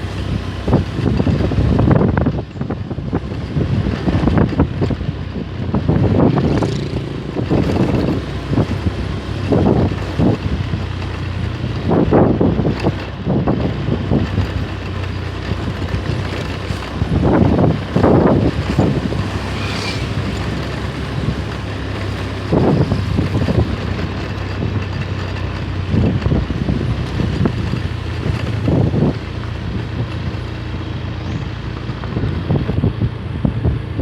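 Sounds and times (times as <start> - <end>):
machinery engine running: 0.0 - 34.0
wind buffeting microphone: 0.0 - 34.0.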